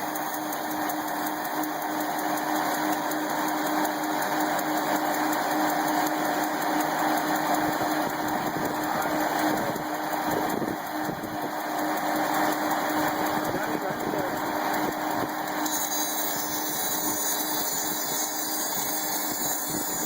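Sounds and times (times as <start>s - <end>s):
sawmill machinery drone: 0.0s - 20.0s.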